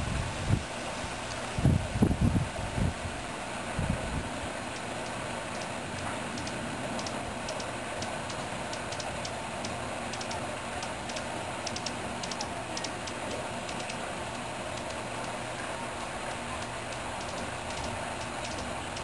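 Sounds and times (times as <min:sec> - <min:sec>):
steady background hiss: 0:00.0 - 0:19.0
hummingbird high ticking chips: 0:03.3 - 0:19.0.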